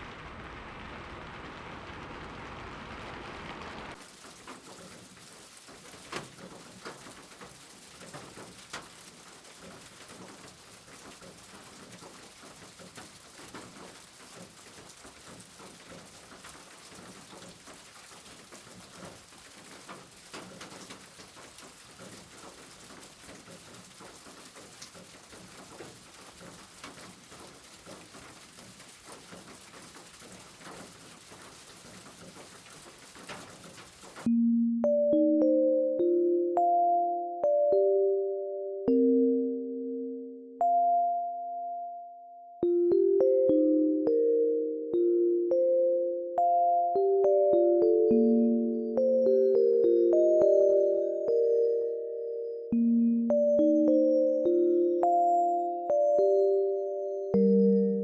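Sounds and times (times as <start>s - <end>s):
raindrops ticking on hard surfaces: 0.0s - 36.8s, 42.6s - 44.3s, 46.4s - 58.0s
rain falling steadily: 0.0s - 40.8s, 42.6s - 58.0s.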